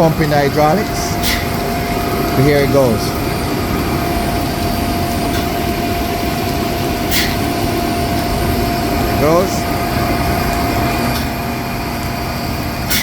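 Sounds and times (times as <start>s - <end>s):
constant whine: 0.0s - 13.0s
hydraulic pump running: 0.0s - 13.0s.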